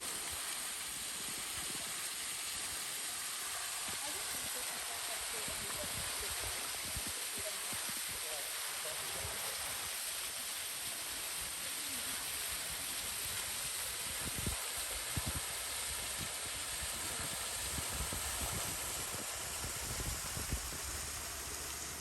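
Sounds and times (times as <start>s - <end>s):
outdoor rushing hiss: 0.0s - 22.0s.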